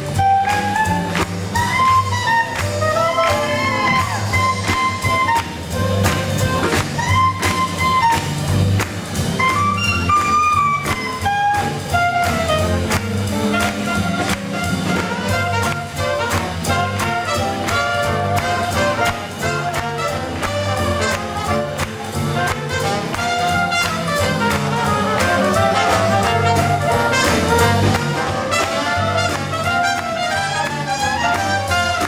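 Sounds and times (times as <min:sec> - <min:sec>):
swing jazz band playing: 0:00.0 - 0:32.0
trumpet and horns melody: 0:00.0 - 0:32.0.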